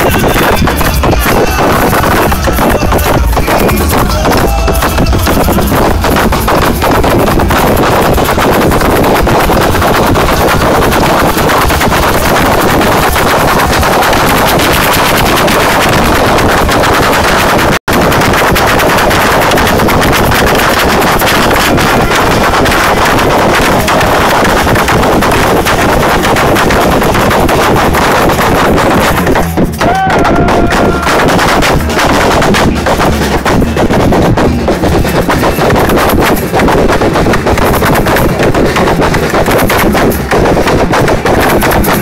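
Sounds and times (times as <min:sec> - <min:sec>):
distorted samba drumming: 0:00.0 - 0:42.0.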